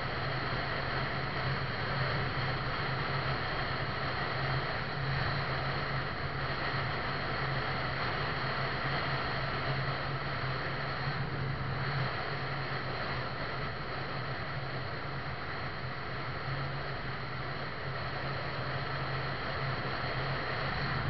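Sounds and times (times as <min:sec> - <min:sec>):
engine hum: 0:00.0 - 0:21.0
road and wind noise: 0:00.0 - 0:21.0.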